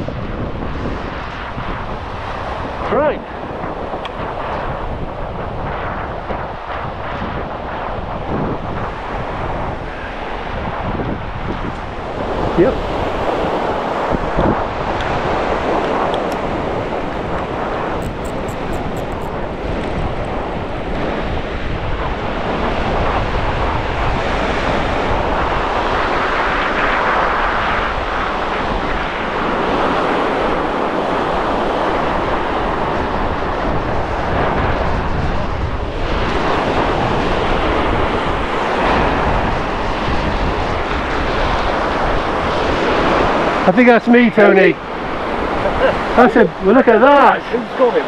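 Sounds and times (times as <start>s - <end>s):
sea waves breaking on beach: 0.0s - 48.0s
wind blowing on microphone: 0.0s - 48.0s.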